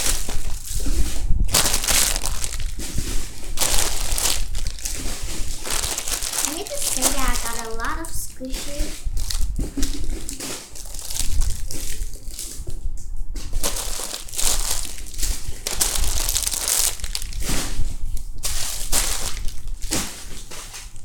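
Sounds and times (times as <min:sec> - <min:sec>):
foam toys crinkling and rustling: 0:00.0 - 0:21.0.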